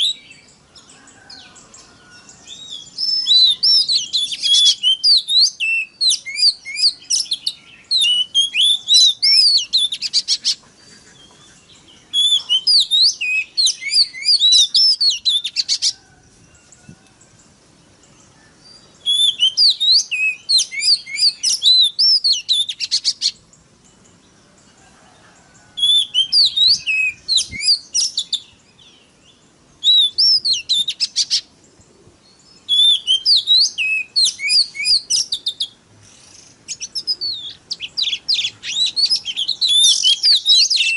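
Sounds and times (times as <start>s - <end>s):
bird singing whistled notes: 0.0s - 10.6s, 11.2s - 16.8s, 18.0s - 24.3s, 25.6s - 40.9s.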